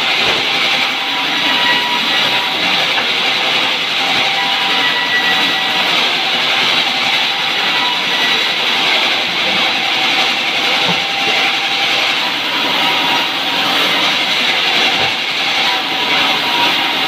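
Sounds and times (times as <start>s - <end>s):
band saw cutting wood: 0.0s - 17.0s.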